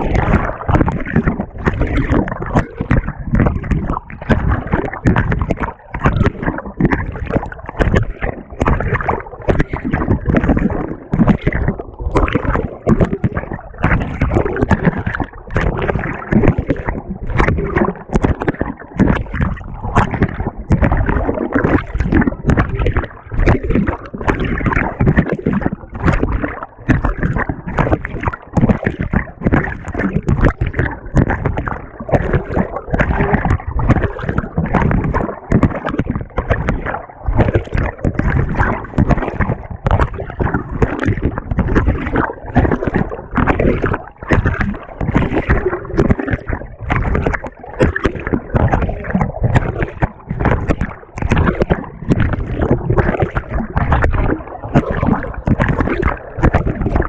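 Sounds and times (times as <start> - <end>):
water and laundry sloshing in washer: 0.0 - 57.0.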